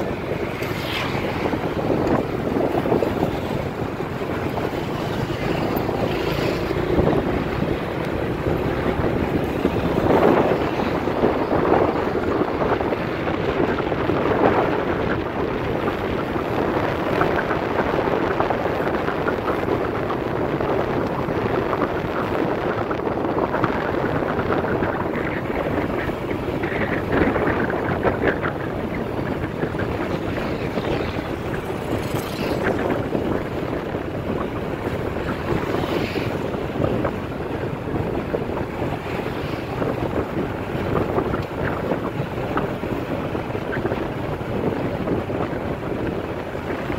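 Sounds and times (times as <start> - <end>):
motorbike running: 0.0 - 46.9
wind rushing over microphone: 0.0 - 46.9.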